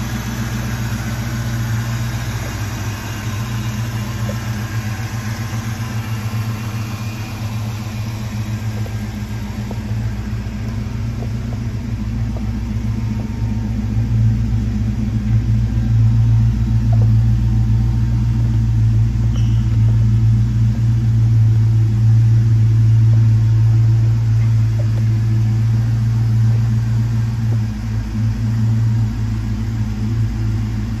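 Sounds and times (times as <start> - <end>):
engine idling with deep rumble: 0.0 - 31.0.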